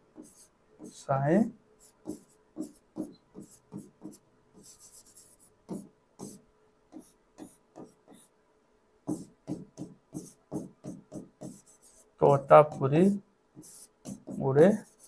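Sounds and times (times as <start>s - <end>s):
scratchy writing on a board: 0.1s - 8.3s, 9.0s - 15.0s.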